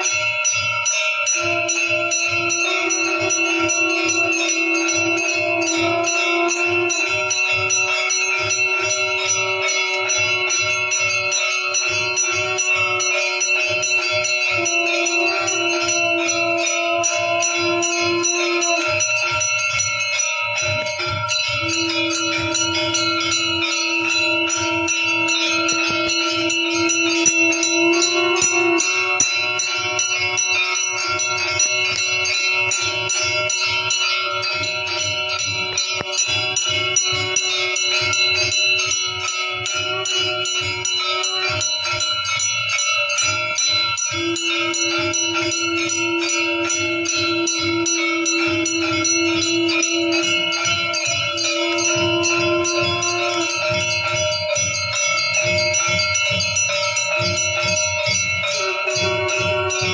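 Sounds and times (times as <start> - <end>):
temple bells clanging: 0.0 - 59.9.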